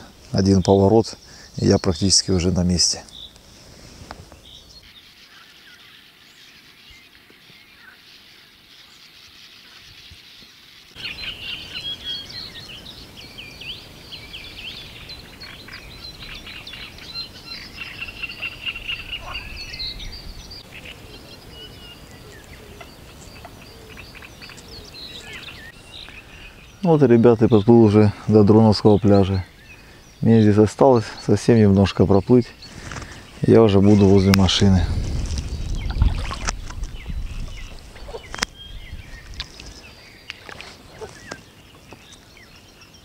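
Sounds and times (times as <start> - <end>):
birds chirping and trilling: 0.0 - 43.0
steady outdoor hiss: 0.0 - 43.0.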